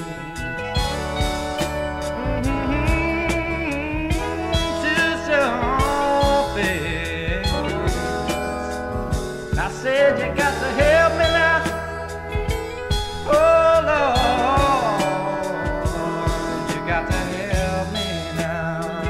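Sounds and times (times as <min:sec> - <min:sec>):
bending lead guitar line: 0:00.0 - 0:19.0
rock band music: 0:00.0 - 0:19.0.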